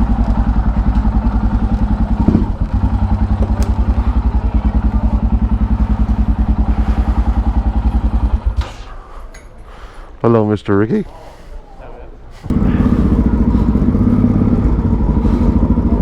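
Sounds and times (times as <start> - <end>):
motorcycle engine idling: 0.0 - 9.7, 12.4 - 16.0.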